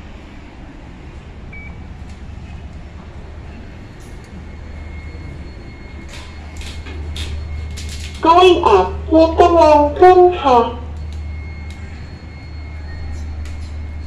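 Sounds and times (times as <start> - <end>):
low building hum: 0.0 - 14.0.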